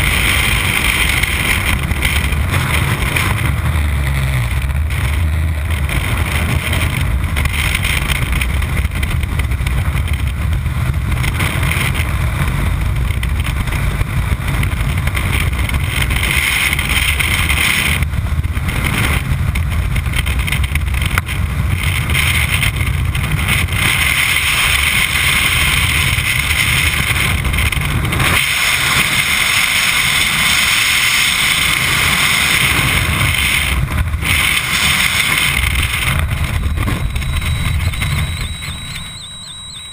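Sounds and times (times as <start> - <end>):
wind buffeting microphone: 0.0 - 39.7.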